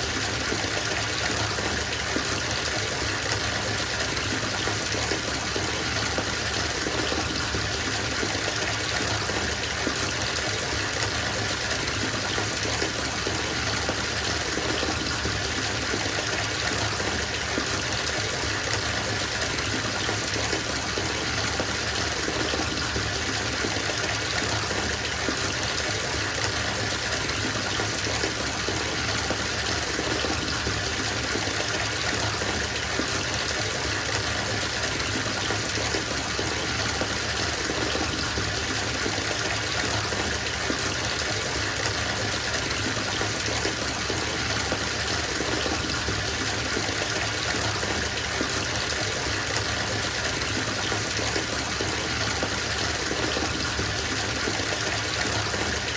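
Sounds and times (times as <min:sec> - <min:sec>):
water gushing into bathtub: 0:00.0 - 0:55.9.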